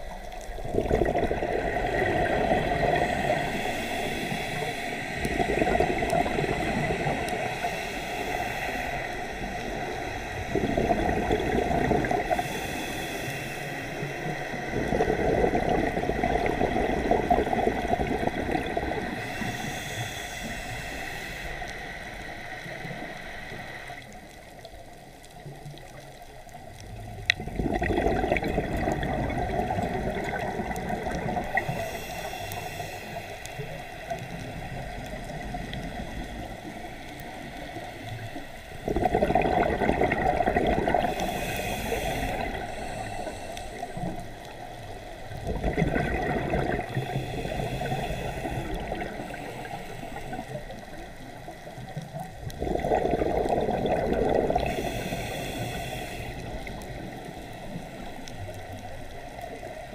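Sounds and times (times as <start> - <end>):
underwater exhaled bubbles gurgling: 0.0 - 59.9.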